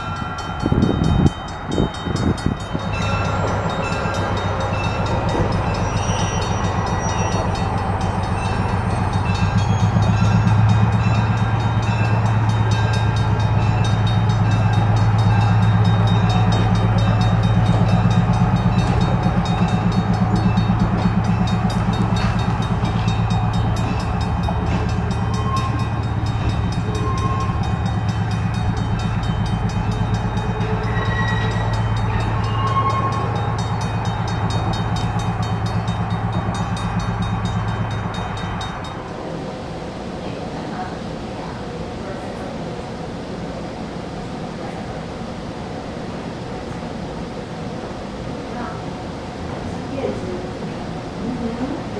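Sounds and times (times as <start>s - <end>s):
locomotive droning: 0.0s - 51.9s.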